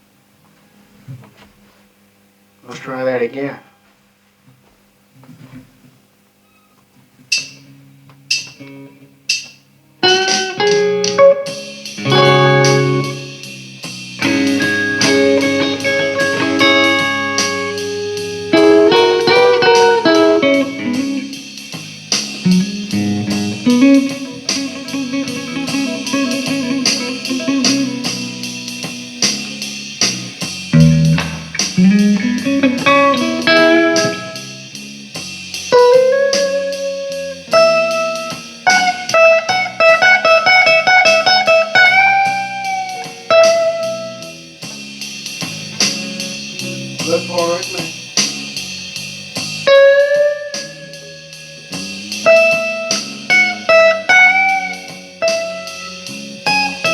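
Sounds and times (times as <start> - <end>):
bluesy lead guitar: 7.3 - 56.9.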